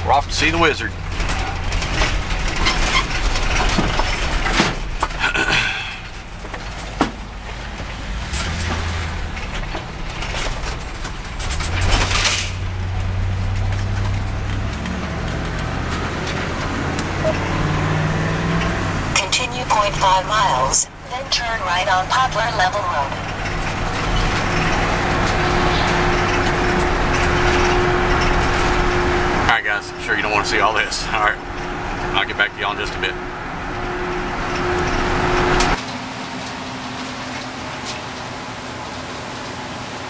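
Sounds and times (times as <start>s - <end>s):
engine humming: 0.0s - 40.0s.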